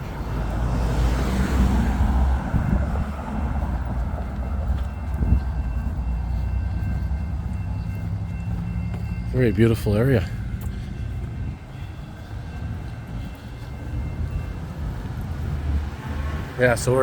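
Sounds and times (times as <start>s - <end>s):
low traffic rumble: 0.0s - 17.0s
vehicle passing: 0.0s - 17.0s.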